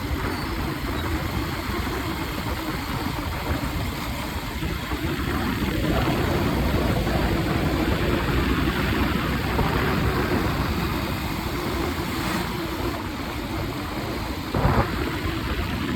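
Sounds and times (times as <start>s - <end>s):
road and wind noise: 0.0s - 15.9s
vehicle engine running: 0.0s - 15.9s.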